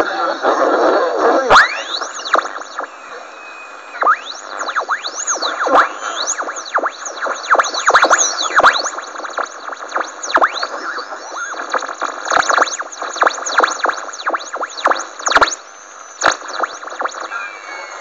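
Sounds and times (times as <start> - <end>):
radio receiver hiss: 0.0 - 18.0
swooping radio whistles: 0.0 - 18.0.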